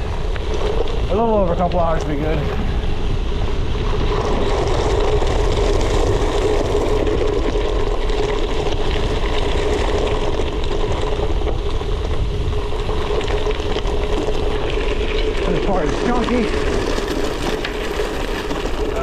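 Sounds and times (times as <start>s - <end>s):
bike tyres on gravel: 0.0s - 19.0s
gravel crunching: 0.0s - 19.0s.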